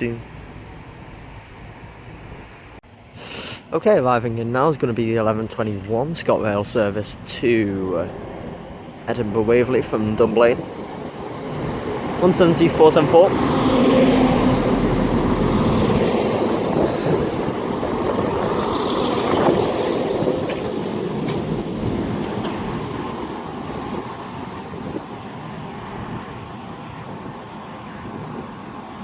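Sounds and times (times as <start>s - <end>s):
diesel train hum: 0.0s - 29.0s.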